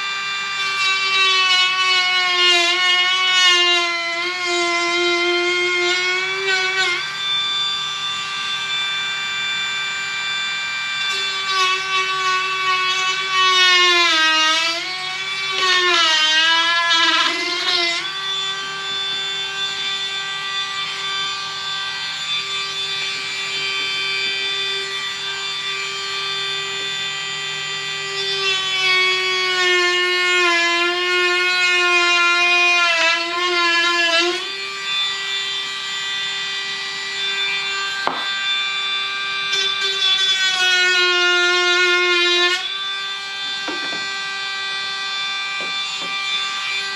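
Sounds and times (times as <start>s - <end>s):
rotary tool whining: 0.0s - 46.9s.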